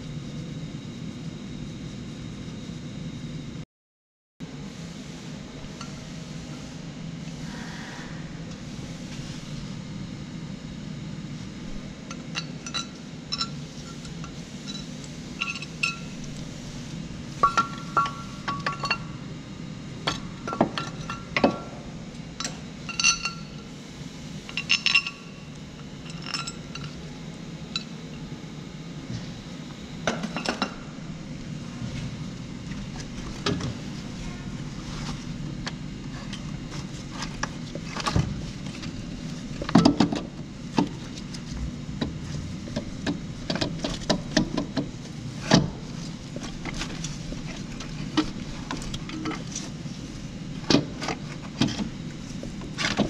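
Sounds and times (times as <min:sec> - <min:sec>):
low hum: 0:04.4 - 0:50.6.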